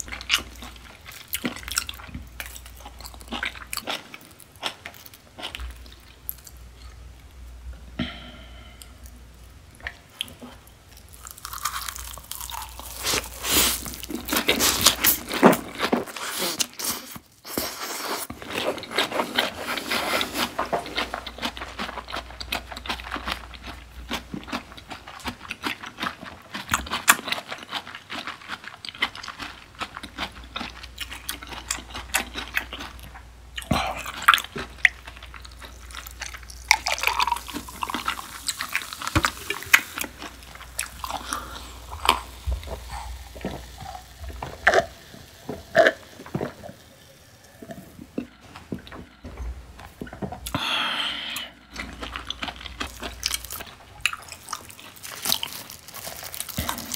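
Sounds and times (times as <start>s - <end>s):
crisp crunching and chewing: 0.0s - 7.0s, 10.2s - 46.8s, 51.7s - 56.9s.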